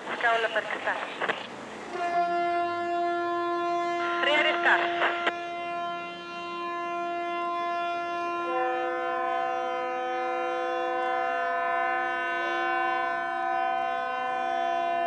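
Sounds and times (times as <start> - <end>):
higher horn chord: 1.9 - 14.6
ship horns chord: 1.9 - 15.0.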